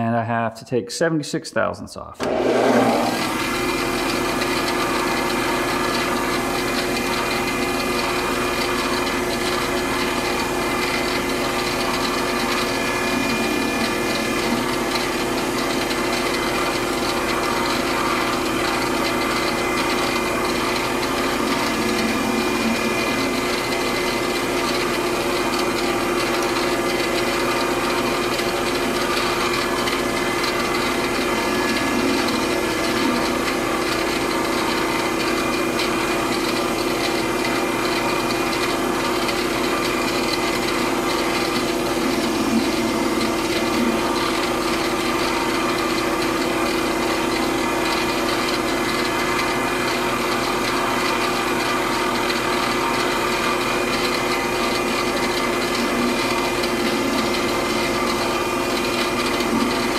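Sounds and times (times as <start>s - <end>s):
metal lathe hum and whine: 2.2s - 59.9s.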